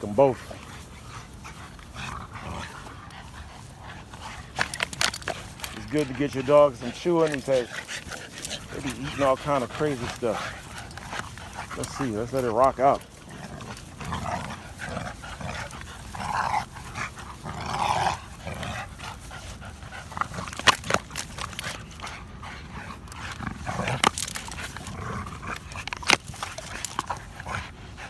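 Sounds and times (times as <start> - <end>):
dog growling: 0.0 - 28.0
dogs shaking a chew toy: 0.4 - 28.0.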